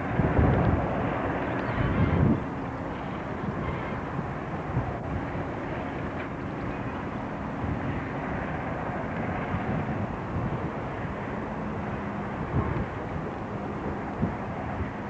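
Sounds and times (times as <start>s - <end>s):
distant diesel locomotive drone: 0.0s - 15.0s.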